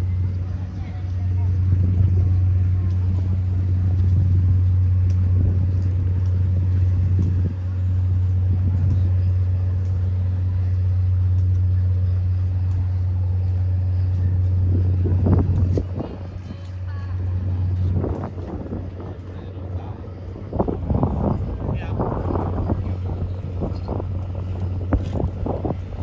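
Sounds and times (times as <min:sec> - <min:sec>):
low engine hum: 0:00.0 - 0:26.0
riverside background noise: 0:00.0 - 0:26.0.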